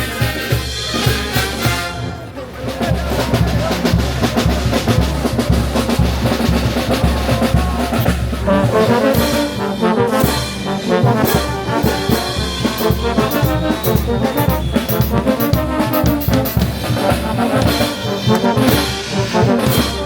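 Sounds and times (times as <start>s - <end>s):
brass band playing: 0.0s - 20.0s
drums beating: 0.0s - 20.0s
trumpets and trombones melody: 0.0s - 20.0s.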